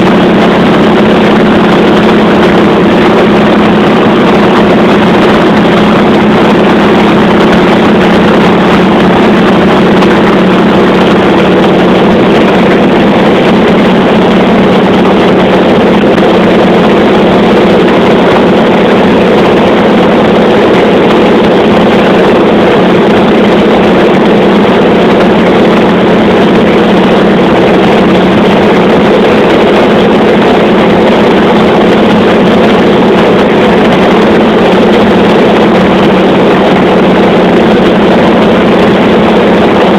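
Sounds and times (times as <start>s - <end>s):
piston aircraft engine droning: 0.0s - 39.9s.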